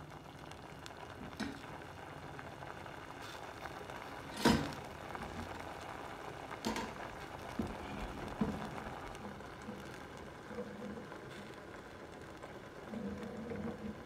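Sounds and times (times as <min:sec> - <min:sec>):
masala sizzling in steel pan: 0:00.0 - 0:14.0.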